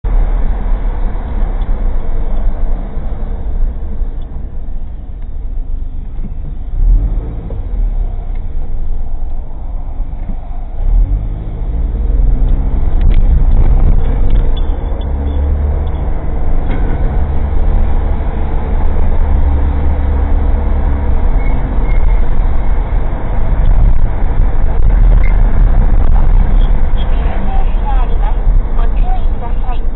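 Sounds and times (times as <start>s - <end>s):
car engine and road noise: 0.0s - 29.9s.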